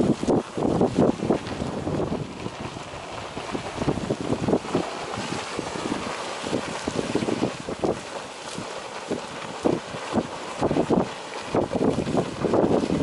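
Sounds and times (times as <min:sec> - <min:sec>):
geyser splashing: 0:00.0 - 0:13.0
wind buffeting microphone: 0:00.0 - 0:13.0.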